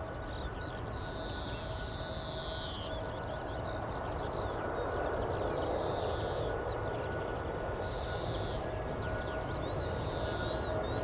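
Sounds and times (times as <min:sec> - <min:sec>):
faint whining tones: 0:00.0 - 0:11.0
jet engines running: 0:00.0 - 0:11.0.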